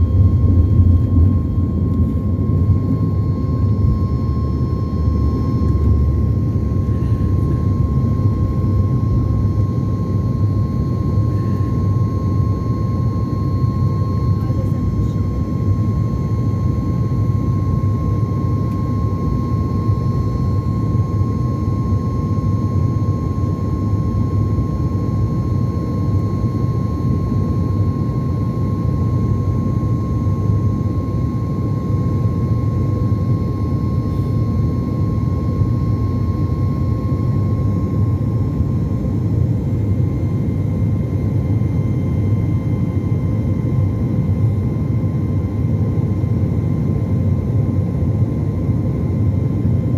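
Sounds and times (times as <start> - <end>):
thin engine whine: 0.0 - 47.2.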